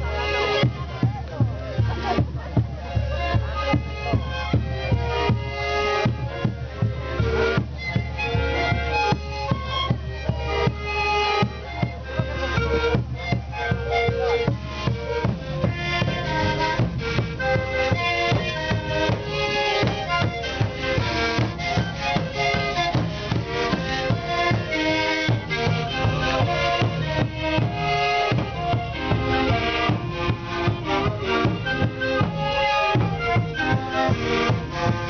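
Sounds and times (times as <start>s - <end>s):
panpipe melody: 0.0s - 35.0s
steady drum beat: 0.1s - 35.0s.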